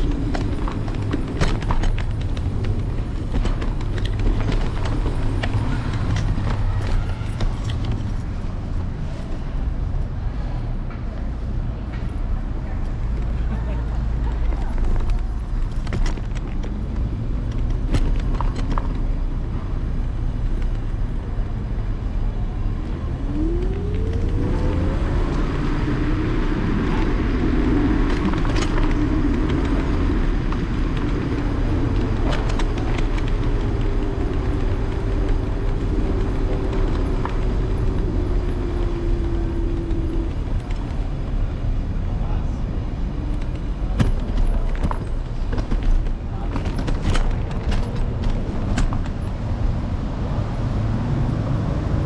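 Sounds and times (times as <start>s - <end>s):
city traffic: 0.0s - 52.0s
low rumble of road and wind: 0.0s - 52.0s.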